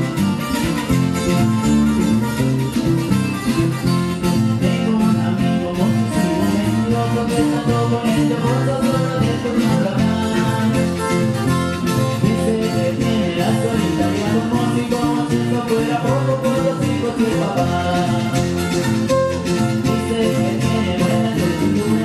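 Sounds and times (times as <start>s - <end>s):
strummed guitars: 0.0s - 22.0s.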